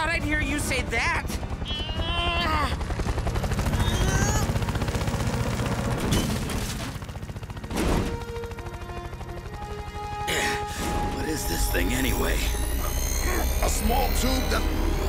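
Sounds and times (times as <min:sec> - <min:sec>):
cartoon helicopter rotor chopping: 0:00.0 - 0:15.0.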